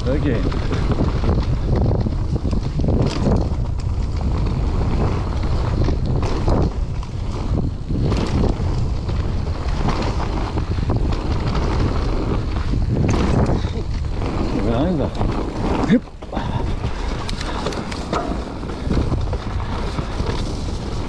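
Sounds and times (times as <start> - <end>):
bike clattering over bumps: 0.0 - 21.0
tyres rolling over dirt: 0.0 - 21.0
wind buffeting microphone: 0.0 - 21.0.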